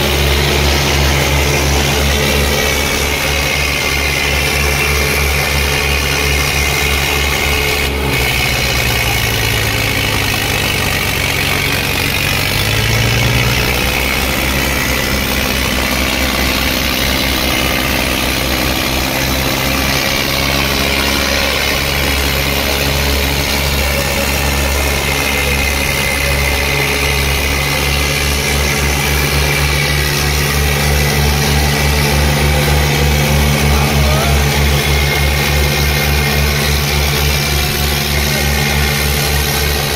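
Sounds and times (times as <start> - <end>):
tractor engines labouring: 0.0 - 39.9.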